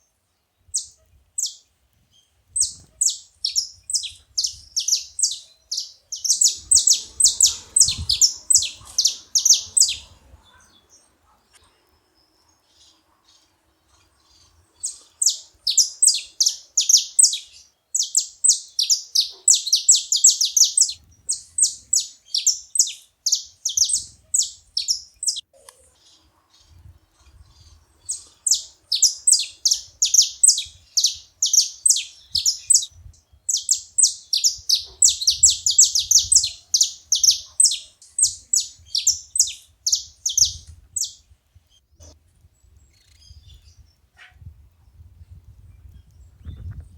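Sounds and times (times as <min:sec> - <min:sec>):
finch singing high chirps: 0:00.6 - 0:41.3.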